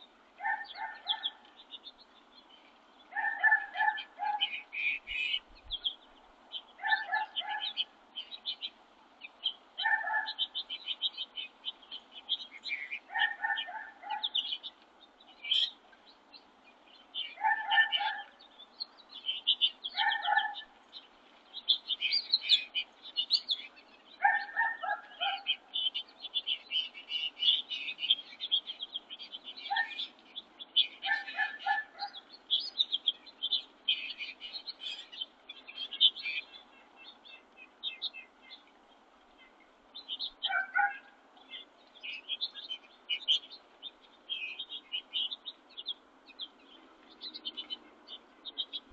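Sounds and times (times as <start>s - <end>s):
birds chirping and twittering: 0.0s - 48.9s.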